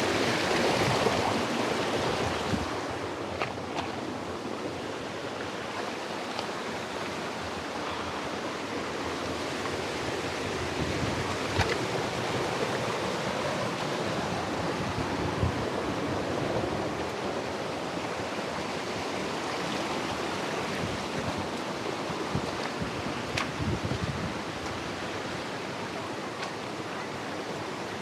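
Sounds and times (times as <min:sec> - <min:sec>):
rushing stream water: 0:00.0 - 0:28.0.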